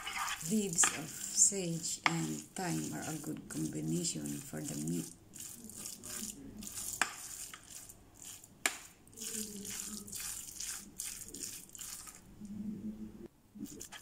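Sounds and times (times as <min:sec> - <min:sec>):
spoon squelching meat mixture: 0:00.0 - 0:12.4, 0:13.6 - 0:14.0.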